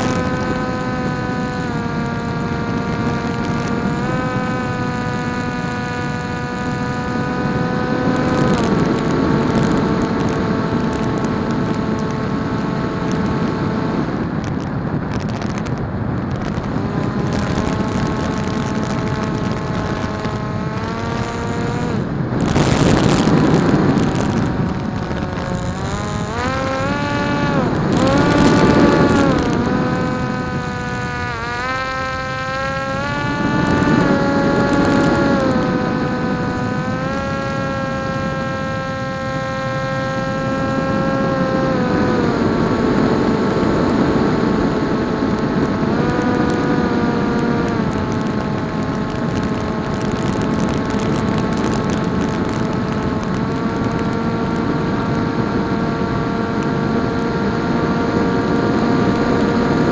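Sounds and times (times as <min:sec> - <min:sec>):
electric motor and propeller whining: 0:00.0 - 0:59.9.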